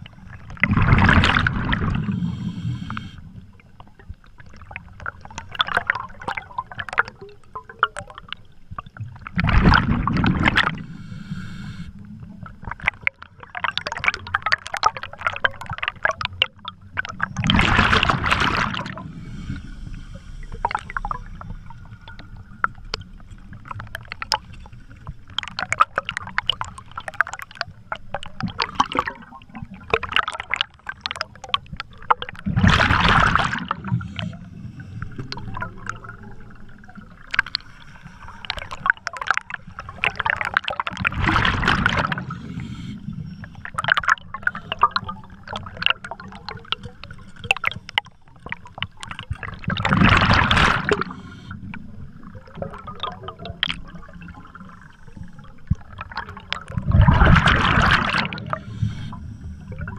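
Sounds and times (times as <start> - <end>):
exhaled bubbles gushing: 0.0 - 11.0, 12.0 - 19.7, 20.4 - 42.8, 43.4 - 59.9
bubbles crackling and clicking: 0.0 - 59.9.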